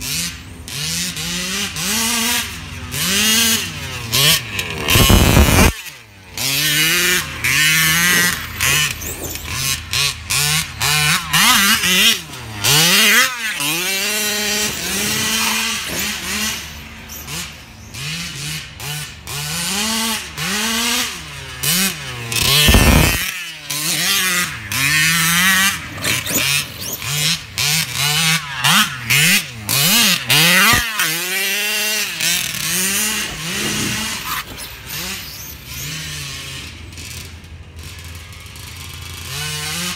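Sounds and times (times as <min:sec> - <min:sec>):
rc buggy engine revving: 0:00.0 - 0:39.9.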